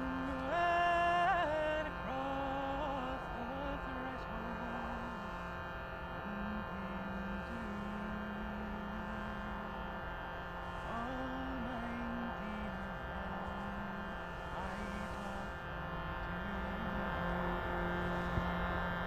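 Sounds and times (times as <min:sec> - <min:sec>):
droning music: 0:00.0 - 0:19.0.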